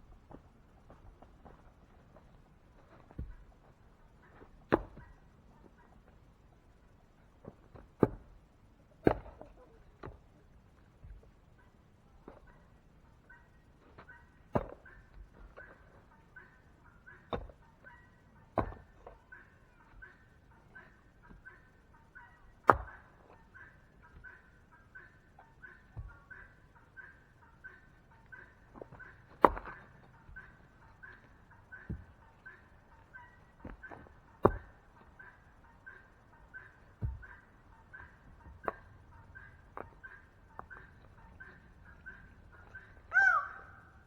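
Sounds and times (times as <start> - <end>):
chickens calling: 0.0 - 44.0.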